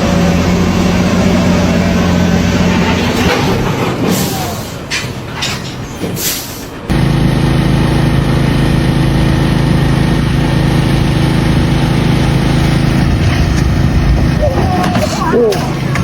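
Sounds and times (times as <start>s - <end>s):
large engine running steadily: 0.0s - 16.0s.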